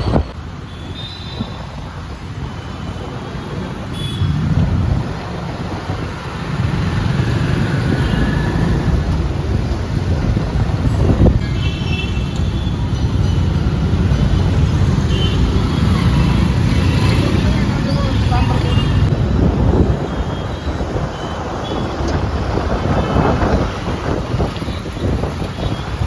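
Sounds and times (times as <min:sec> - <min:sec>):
traffic engines and tyres rumble: 0:00.0 - 0:26.0.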